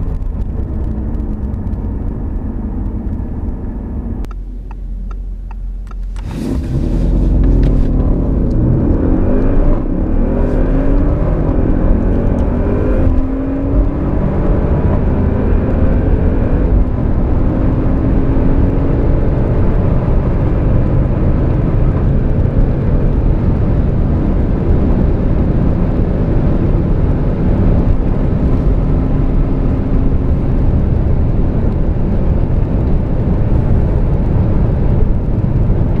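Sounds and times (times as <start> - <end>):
car engine tone: 0.0 - 32.2
wind and tyre noise: 0.0 - 36.0.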